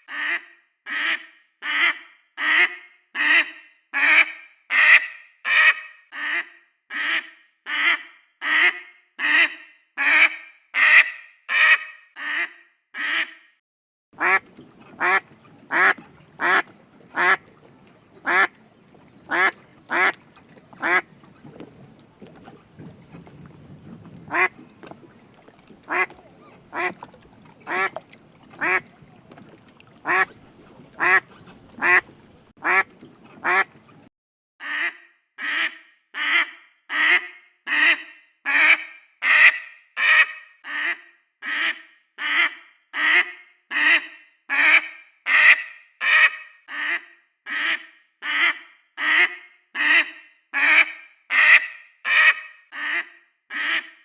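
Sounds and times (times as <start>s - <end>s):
duck quacking: 0.0s - 13.4s, 14.2s - 22.4s, 24.2s - 54.0s.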